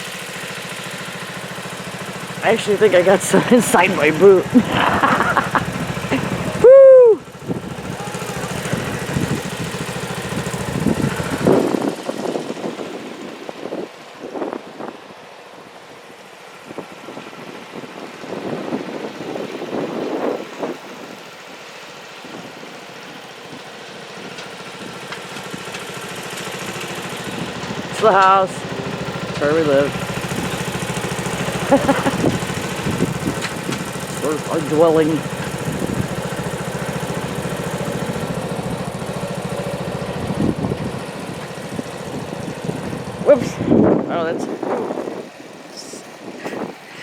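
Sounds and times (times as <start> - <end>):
garden tractor engine idling: 0.0 - 20.1, 20.7 - 47.0.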